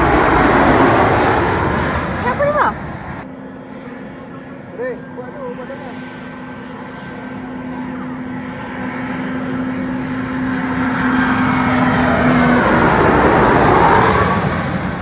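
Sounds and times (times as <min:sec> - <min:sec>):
airliner engine noise: 0:00.0 - 0:15.0.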